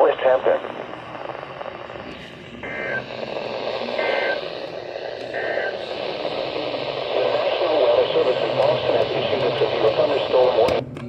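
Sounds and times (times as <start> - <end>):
radio hiss: 0.0 - 10.8
two-tone data bursts: 0.0 - 10.8.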